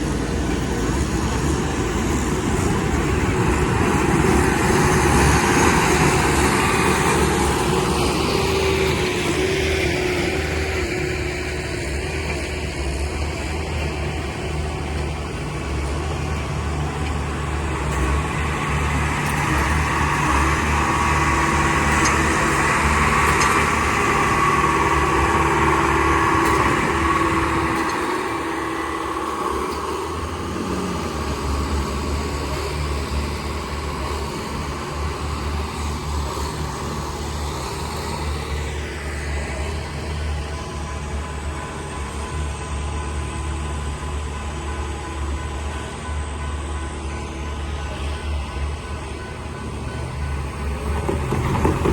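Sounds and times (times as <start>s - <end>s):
diesel train engine hum: 0.0s - 51.9s.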